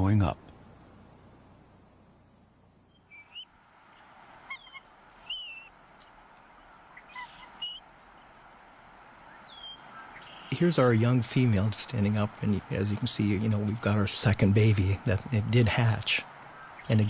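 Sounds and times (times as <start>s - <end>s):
faint hiss: 0.0s - 17.0s
birds calling: 2.8s - 17.0s.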